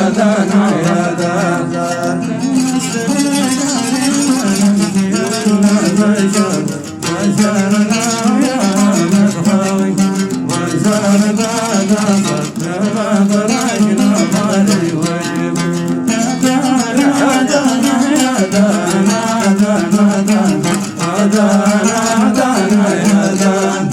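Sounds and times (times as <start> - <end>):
person singing melody: 0.0 - 23.9
plucked string instrument: 0.0 - 23.9.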